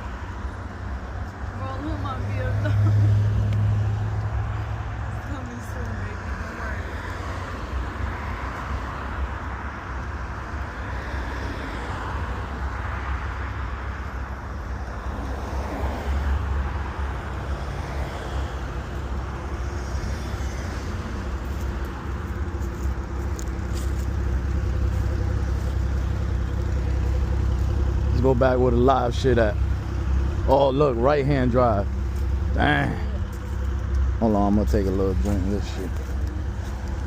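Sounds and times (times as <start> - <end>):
car engine humming: 0.0 - 37.0
car engines idling: 0.0 - 37.0.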